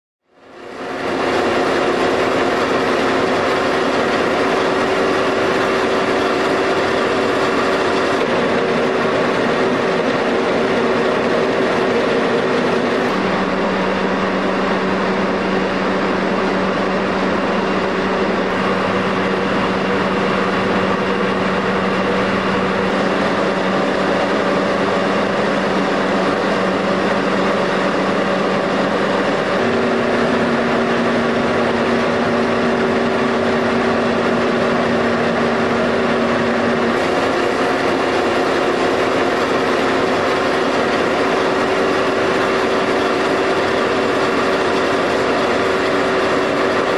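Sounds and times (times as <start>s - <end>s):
machine running with hum: 0.3s - 46.9s.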